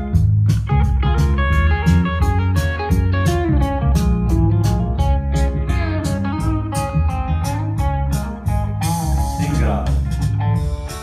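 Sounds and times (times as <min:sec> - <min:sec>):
blues guitar music over loudspeakers: 0:00.0 - 0:11.0
heavy bass line: 0:00.0 - 0:11.0
steady ticking beat: 0:00.0 - 0:11.0.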